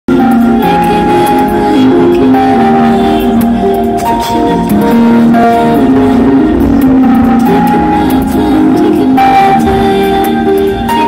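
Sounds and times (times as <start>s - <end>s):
music with heavy bass: 0.1s - 11.0s.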